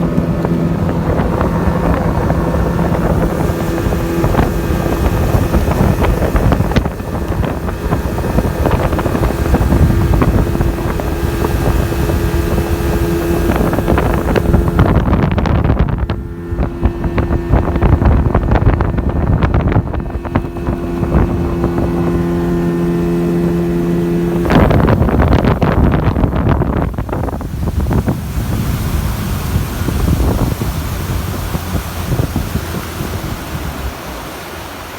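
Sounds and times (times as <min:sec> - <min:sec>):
boat engine hum: 0:00.0 - 0:34.9
rushing water: 0:00.0 - 0:34.9
wind on microphone: 0:00.0 - 0:34.9.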